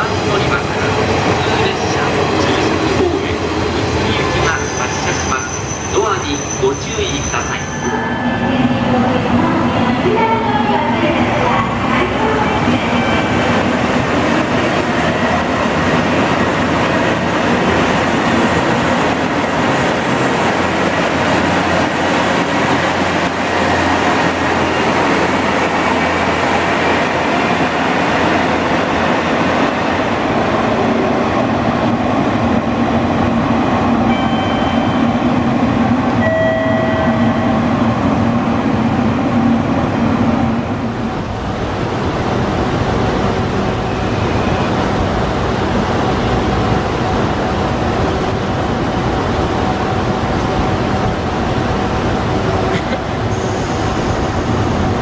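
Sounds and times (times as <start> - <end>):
rail noise: 0.0 - 55.0.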